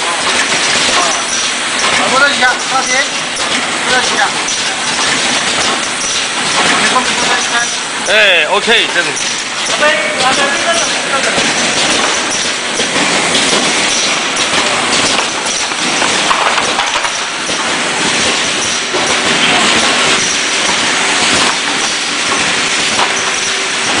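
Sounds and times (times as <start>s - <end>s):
packaging machine clatter: 0.0s - 24.0s.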